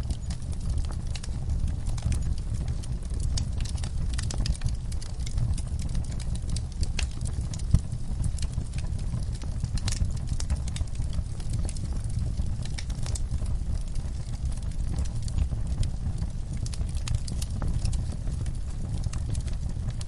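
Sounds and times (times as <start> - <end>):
fire popping and snapping: 0.0 - 20.0
wood fire crackling: 0.0 - 20.0.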